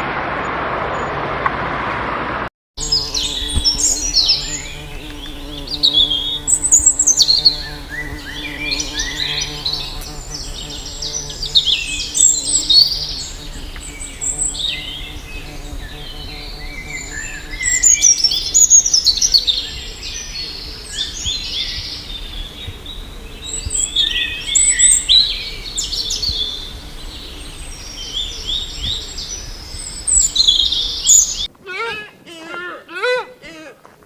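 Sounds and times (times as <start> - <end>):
birds chirping: 2.8 - 33.2.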